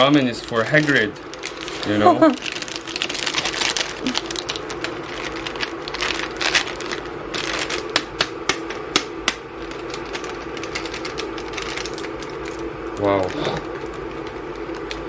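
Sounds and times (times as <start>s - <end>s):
plastic packaging crinkling: 0.0s - 8.6s, 9.4s - 15.0s
steady low hum: 0.0s - 15.0s.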